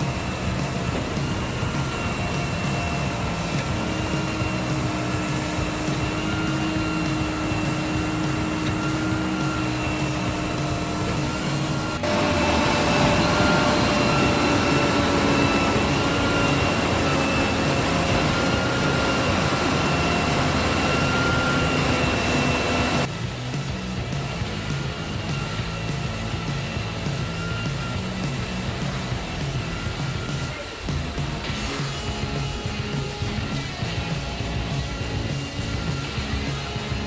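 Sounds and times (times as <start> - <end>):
concrete mixer running: 0.0 - 37.0.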